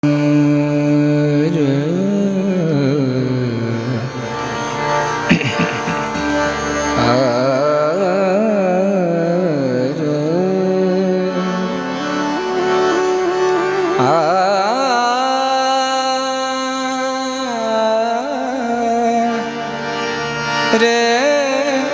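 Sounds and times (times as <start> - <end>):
person singing ornamented vocal: 0.0 - 19.8, 20.7 - 21.9
harmonium held notes: 0.0 - 21.9.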